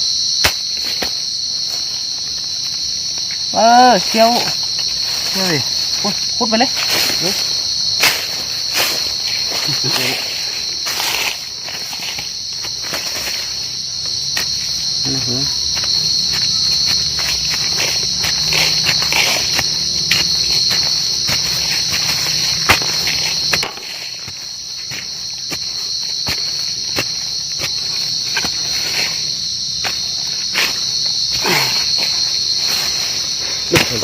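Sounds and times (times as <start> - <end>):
cricket trilling: 0.0 - 34.0.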